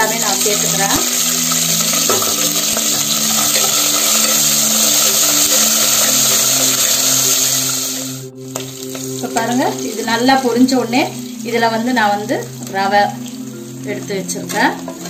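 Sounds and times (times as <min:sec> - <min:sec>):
food sizzling in hot fat: 0:00.0 - 0:15.0.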